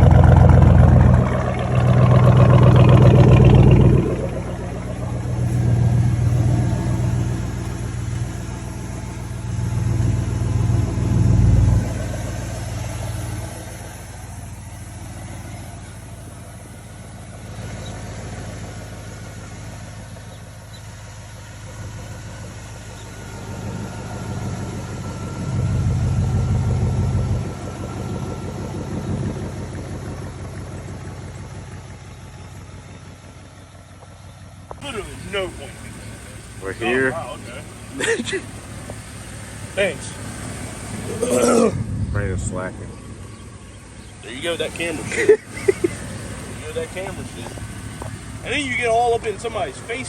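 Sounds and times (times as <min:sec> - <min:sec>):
car engine running: 0:00.0 - 0:50.0.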